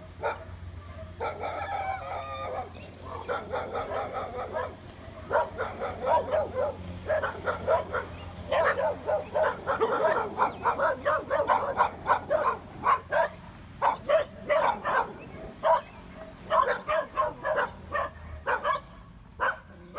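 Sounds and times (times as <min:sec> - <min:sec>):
dogs barking: 0:00.0 - 0:19.9.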